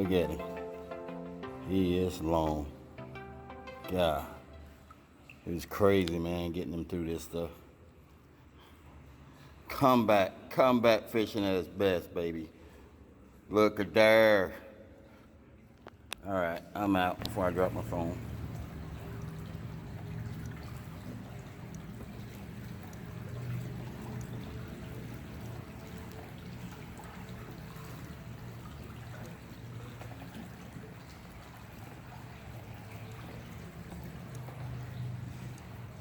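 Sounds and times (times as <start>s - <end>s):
water trickling and lapping: 0.0s - 36.0s.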